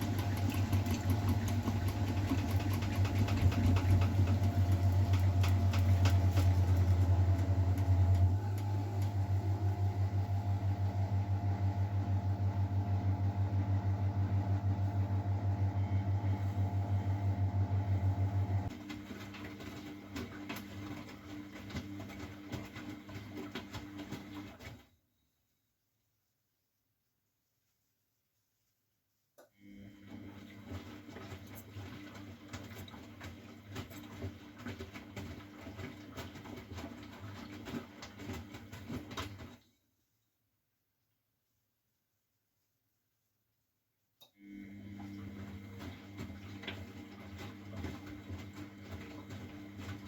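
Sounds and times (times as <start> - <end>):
washing machine pulsing hum: 0.0 - 25.0, 29.6 - 39.7, 44.4 - 50.0.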